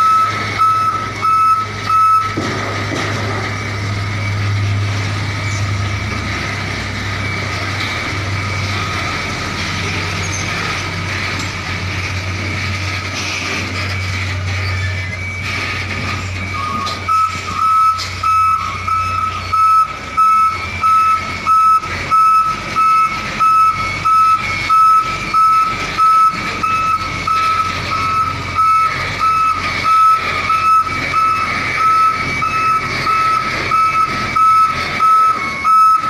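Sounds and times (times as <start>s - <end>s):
diesel engine running: 0.0s - 36.0s
truck reversing alarm beeping: 0.0s - 36.0s.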